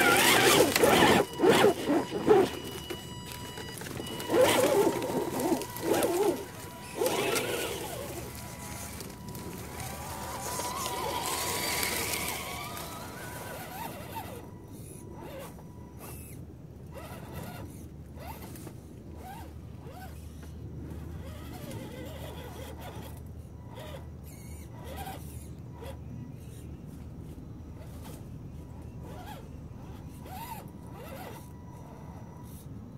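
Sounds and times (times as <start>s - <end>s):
electric motors whining: 0.0s - 32.9s.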